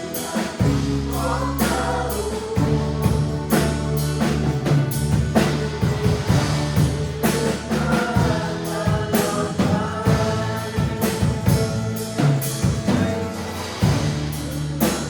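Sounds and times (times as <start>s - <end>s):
drum kit beat: 0.0s - 15.0s
people singing: 0.0s - 15.0s.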